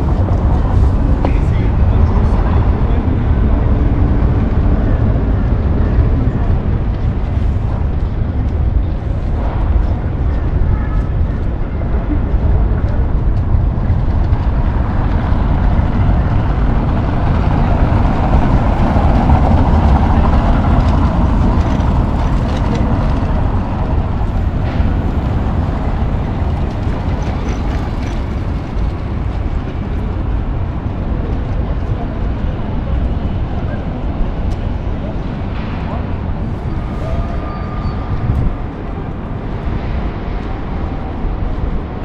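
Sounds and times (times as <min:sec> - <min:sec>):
city traffic rumble: 0:00.0 - 0:42.0.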